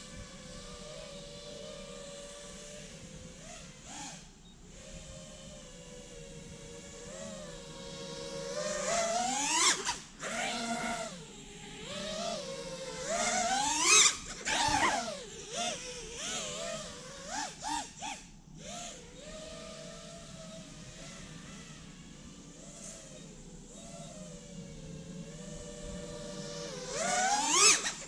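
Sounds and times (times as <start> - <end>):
drone motors whining: 0.0 - 28.0.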